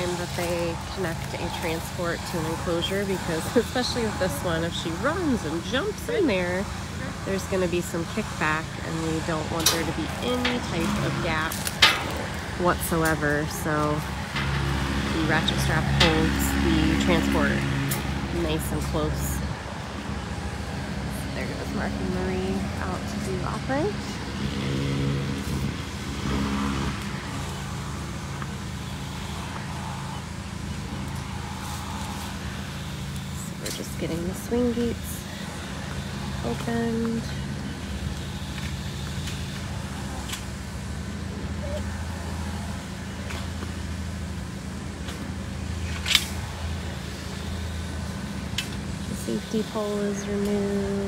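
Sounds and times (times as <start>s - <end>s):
engine running: 0.0s - 51.0s.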